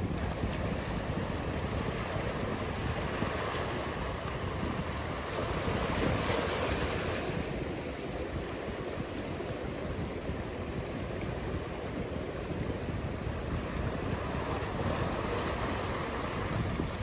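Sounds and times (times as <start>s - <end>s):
ocean waves breaking: 0.0s - 17.0s
wind on microphone: 0.0s - 17.0s.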